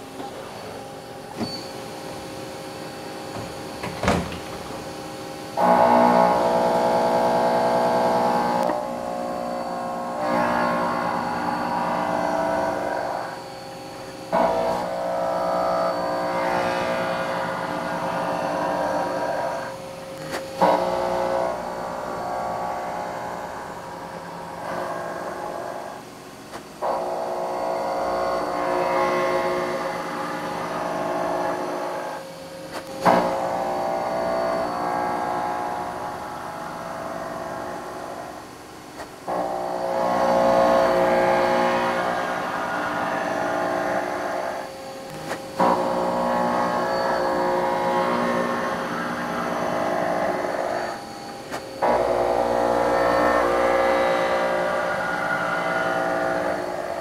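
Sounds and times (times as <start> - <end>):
milling machine cutting whine: 0.0 - 57.0.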